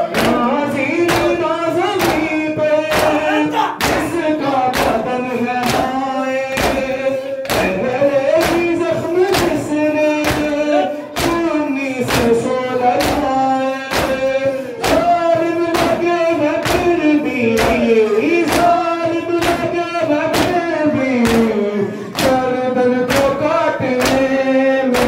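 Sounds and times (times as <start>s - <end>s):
voices chanting a lament: 0.0s - 25.0s.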